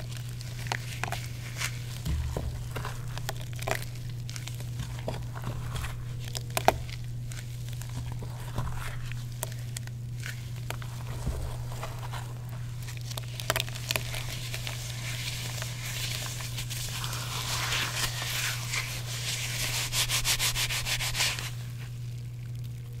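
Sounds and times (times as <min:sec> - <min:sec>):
chalk crunching by hand: 0:00.0 - 0:22.0
steady low hum: 0:00.0 - 0:23.0.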